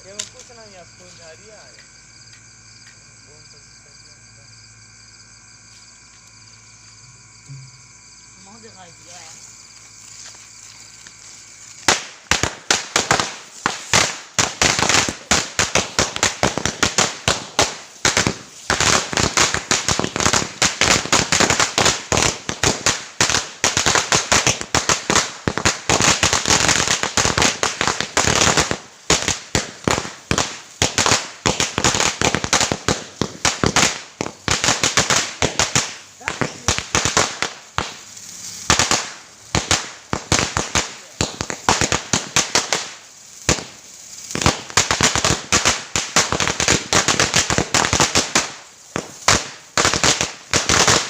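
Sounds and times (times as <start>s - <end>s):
string of firecrackers banging: 5.8s - 51.0s.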